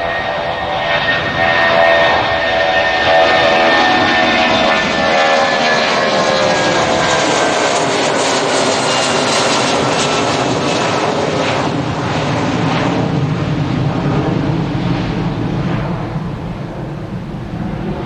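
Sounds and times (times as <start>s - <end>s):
deep rumbling jet roar: 0.0s - 18.0s
jet engines whining: 0.0s - 18.0s.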